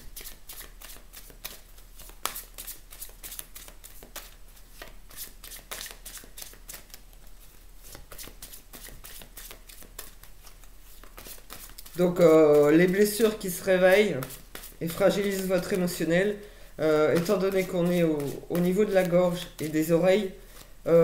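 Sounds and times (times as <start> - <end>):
cards being shuffled: 0.0 - 16.2, 17.0 - 20.8.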